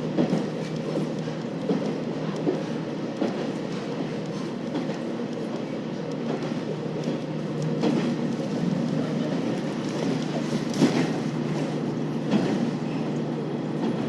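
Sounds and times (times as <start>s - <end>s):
diesel railcar engine drone: 0.0s - 14.0s.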